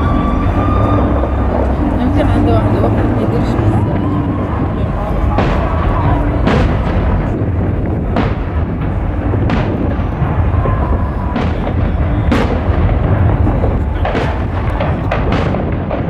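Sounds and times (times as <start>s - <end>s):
fireworks booming: 0.0s - 16.0s
sharp firework bangs: 0.0s - 16.0s.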